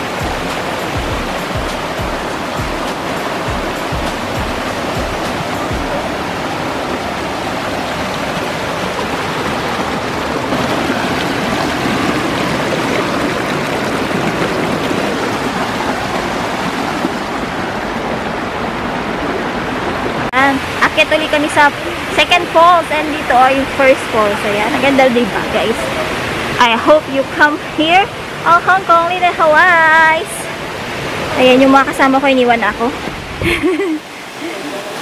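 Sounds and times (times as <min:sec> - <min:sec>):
water rushing and splashing over rocks: 0:00.0 - 0:35.0.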